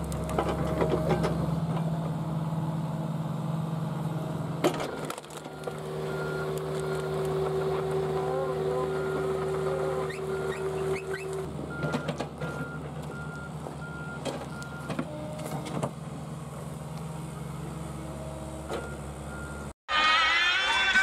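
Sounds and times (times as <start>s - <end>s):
diesel excavator engine running: 0.0s - 19.7s.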